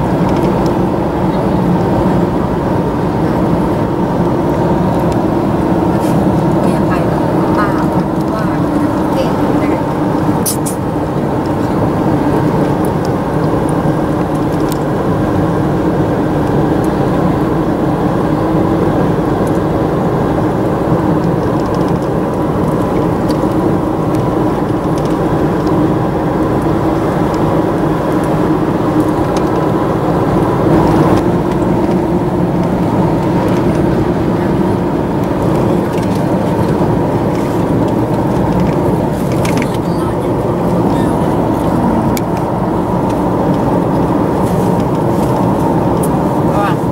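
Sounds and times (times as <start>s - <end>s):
car engine hum: 0.0s - 46.9s
tyre road noise: 0.0s - 46.9s.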